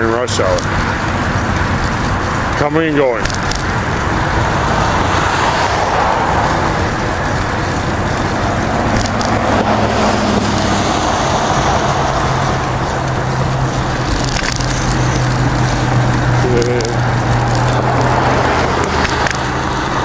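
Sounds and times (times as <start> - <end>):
cars passing close by: 0.0 - 20.0.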